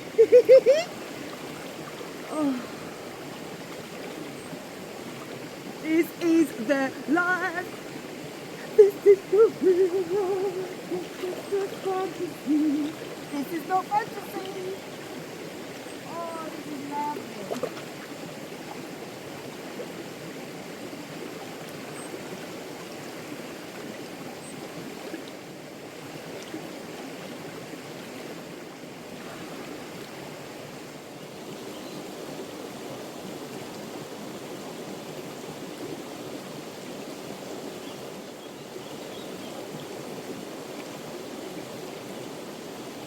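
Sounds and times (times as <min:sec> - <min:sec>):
brook babbling over stones: 0:00.0 - 0:43.0.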